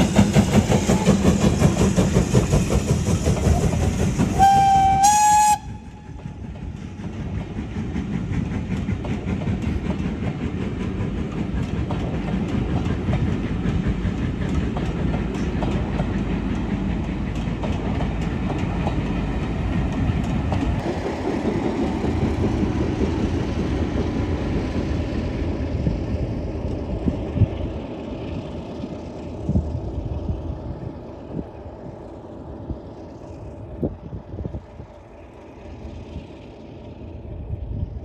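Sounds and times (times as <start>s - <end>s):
train wheels clicking over rail joints: 0.0s - 38.0s.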